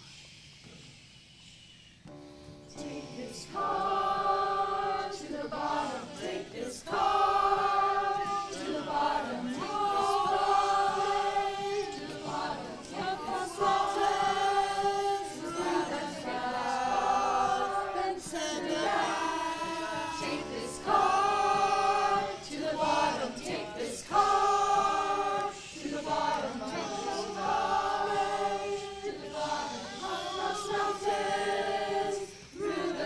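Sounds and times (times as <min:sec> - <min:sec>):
mixed choir singing: 0:02.7 - 0:33.0.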